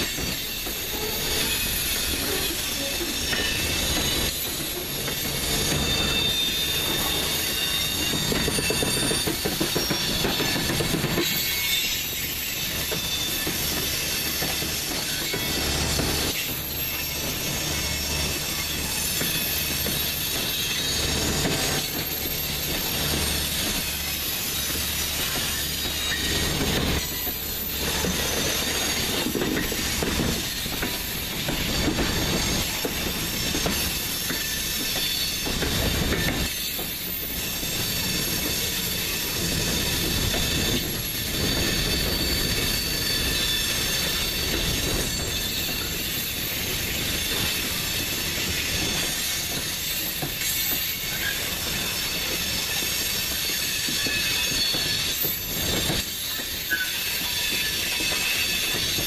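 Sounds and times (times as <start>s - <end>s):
train wheels rumbling: 0.0s - 59.0s
high-pitched wheel squeal: 0.1s - 15.6s, 16.4s - 59.0s.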